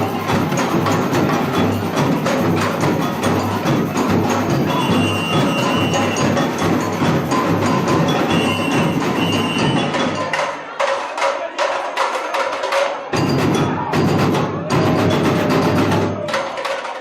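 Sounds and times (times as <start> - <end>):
high percussion hits: 0.0 - 17.0.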